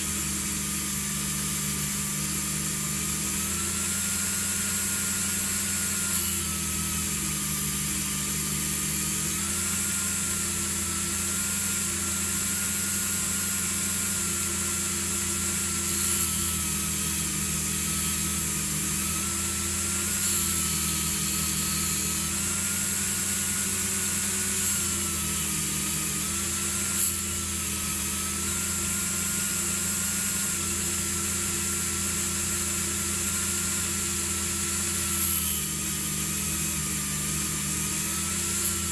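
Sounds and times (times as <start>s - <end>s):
electric rotary tool polishing metal: 0.0s - 38.9s.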